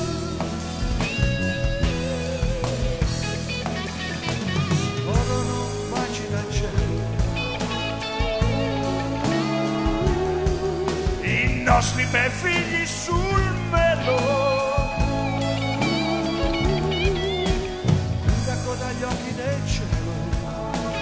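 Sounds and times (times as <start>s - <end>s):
bass: 0.0s - 21.0s
drums: 0.0s - 21.0s
electric guitar lead: 0.0s - 21.0s.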